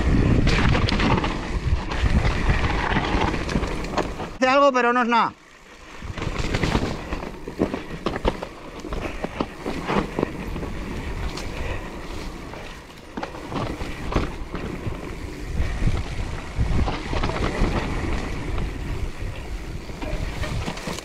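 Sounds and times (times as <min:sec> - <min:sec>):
bike knocking and rattling: 0:00.0 - 0:04.4, 0:05.8 - 0:21.0
wind rumbling on microphone: 0:00.0 - 0:04.4, 0:05.8 - 0:21.0
bike tyres on dirt trail: 0:00.0 - 0:21.0.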